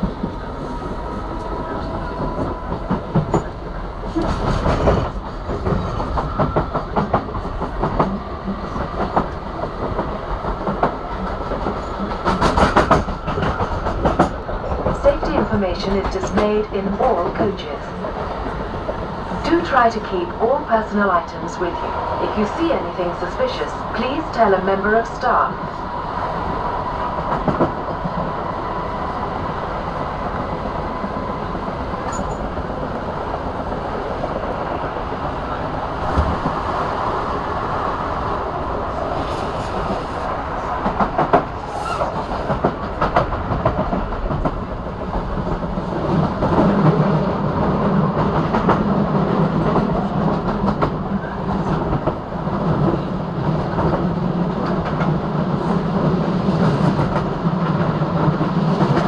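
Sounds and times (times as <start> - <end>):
train running noise: 0.0 - 59.0.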